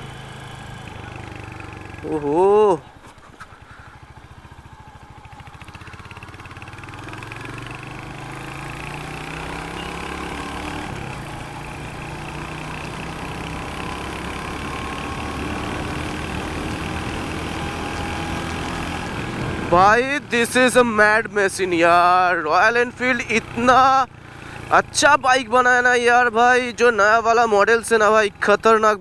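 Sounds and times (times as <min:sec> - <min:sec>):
motorcycle engine accelerating: 0:00.0 - 0:27.2.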